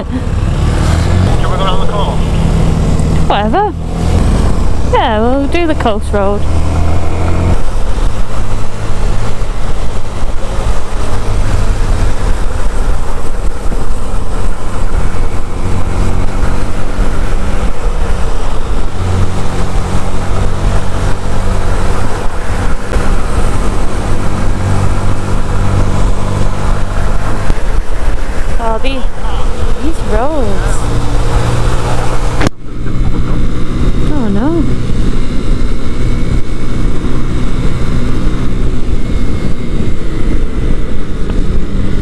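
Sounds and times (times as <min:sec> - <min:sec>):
motorcycle engine running: 0:00.0 - 0:42.0
wind on microphone: 0:02.4 - 0:42.0.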